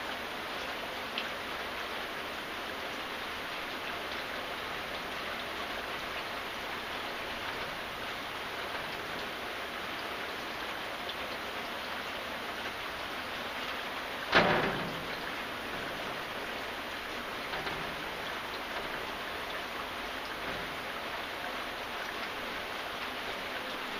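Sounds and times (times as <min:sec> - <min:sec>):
steady rain hissing: 0:00.0 - 0:23.9.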